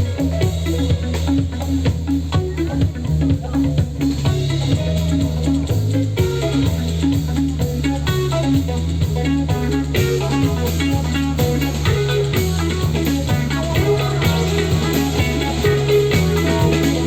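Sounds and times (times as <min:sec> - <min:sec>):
guitar lines: 0:00.0 - 0:17.0
pulsing bass line: 0:00.0 - 0:17.0.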